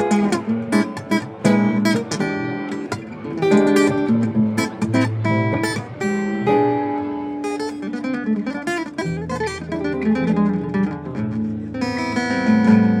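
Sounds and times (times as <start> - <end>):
guitar picked notes: 0.0 - 13.0
strummed guitar chords: 0.0 - 13.0.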